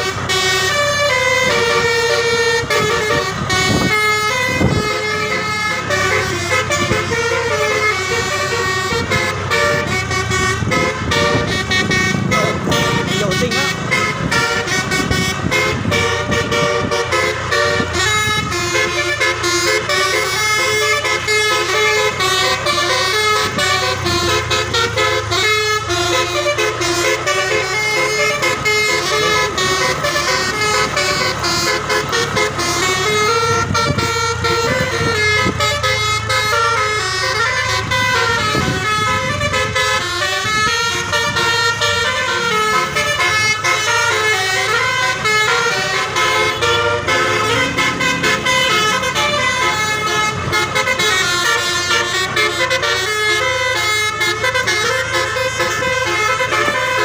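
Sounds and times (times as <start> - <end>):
multi-tone air horns playing melody: 0.0 - 57.0.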